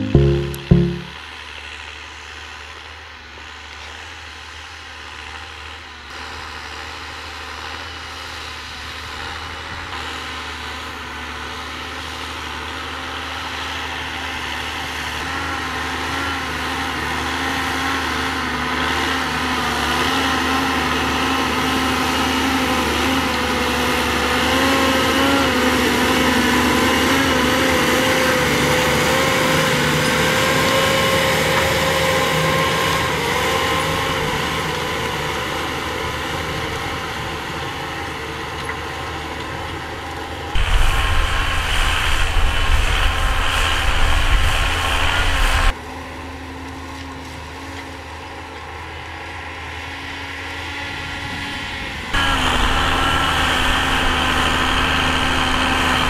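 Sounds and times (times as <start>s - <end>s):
tractor diesel engine under load: 4.4s - 45.7s, 51.9s - 56.0s.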